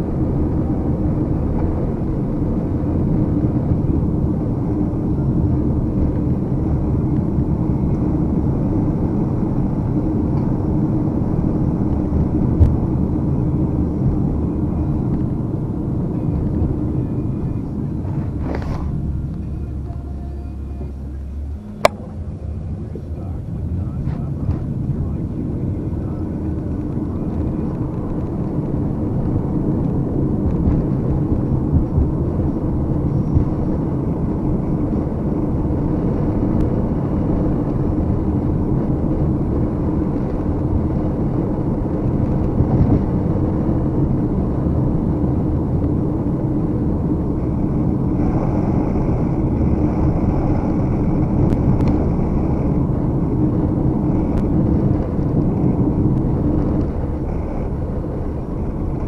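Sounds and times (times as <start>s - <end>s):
muffled low rumble: 0.0s - 59.0s.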